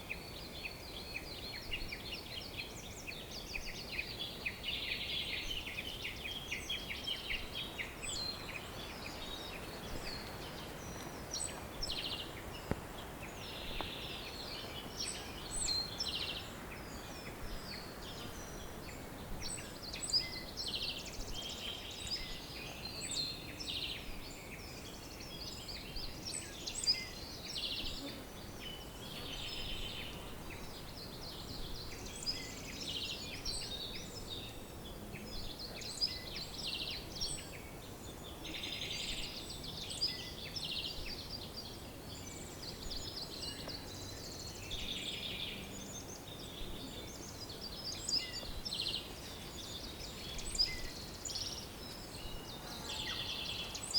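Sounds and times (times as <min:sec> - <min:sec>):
faint steady background noise: 0:00.0 - 0:53.9
songbirds chirping and trilling: 0:00.0 - 0:53.9.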